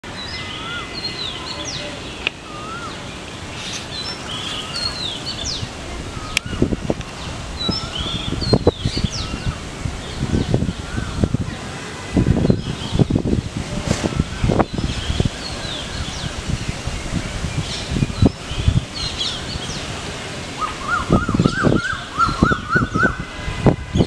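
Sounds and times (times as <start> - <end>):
outdoor background noise: 0.0 - 24.0
birds whistling and chirping: 0.2 - 11.5, 12.4 - 13.4, 14.0 - 19.9, 20.6 - 23.3.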